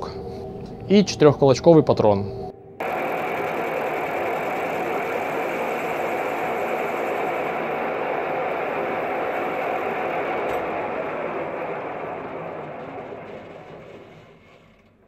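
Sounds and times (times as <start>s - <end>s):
metal lathe running: 2.8s - 15.0s.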